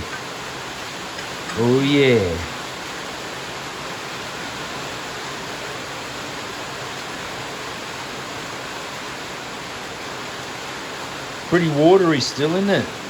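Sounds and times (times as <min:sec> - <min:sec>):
heavy rain on a shed roof: 0:00.0 - 0:13.0.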